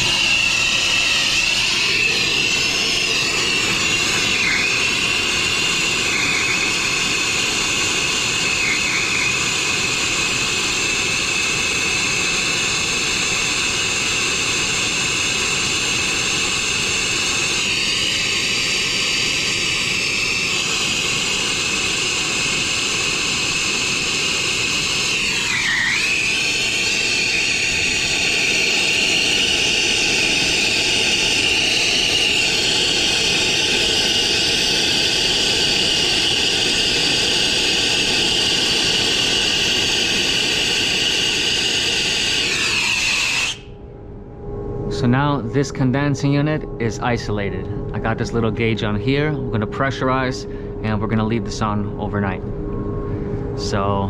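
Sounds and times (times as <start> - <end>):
torch flame hissing: 0.0 - 43.8.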